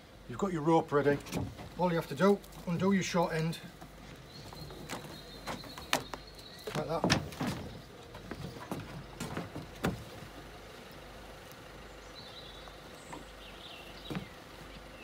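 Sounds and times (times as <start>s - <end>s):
outboard motor idling: 3.0s - 15.0s.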